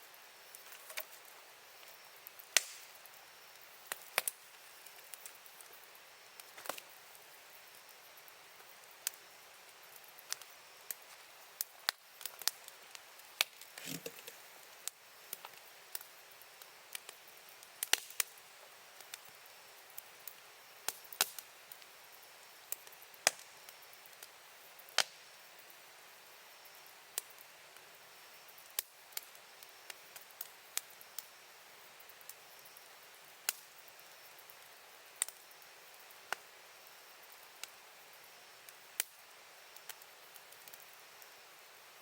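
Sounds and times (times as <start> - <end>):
campfire crackling: 0.0 - 42.0
faint fire hiss: 0.0 - 42.0.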